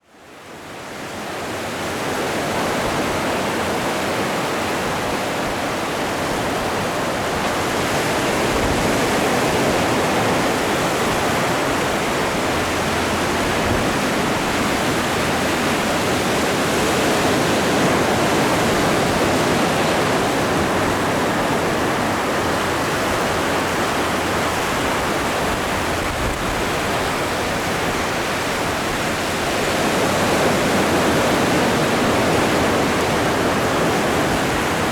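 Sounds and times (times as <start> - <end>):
ocean waves breaking on shore: 0.2 - 34.9.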